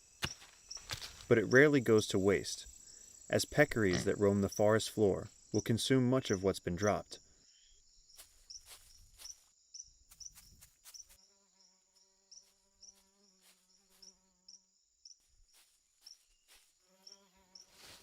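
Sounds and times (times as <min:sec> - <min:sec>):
insect high trill and chirps: 0:00.0 - 0:18.0.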